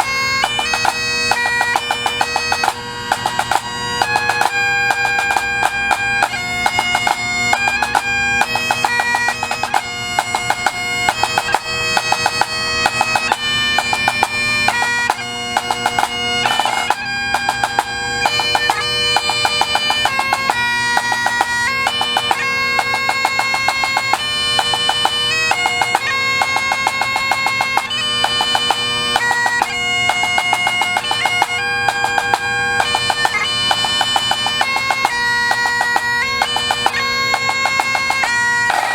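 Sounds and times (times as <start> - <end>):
bagpipes playing: 0.0 - 38.9.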